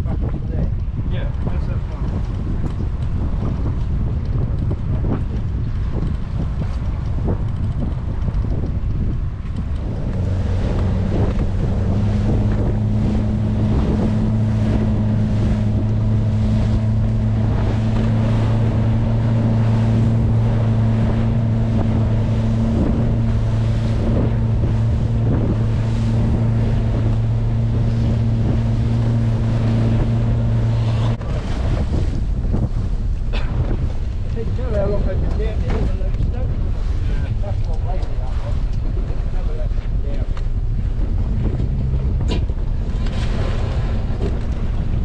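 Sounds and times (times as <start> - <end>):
boat engine humming: 0.0 - 45.0
rush of boat wake: 0.0 - 45.0
wind buffeting microphone: 0.0 - 45.0.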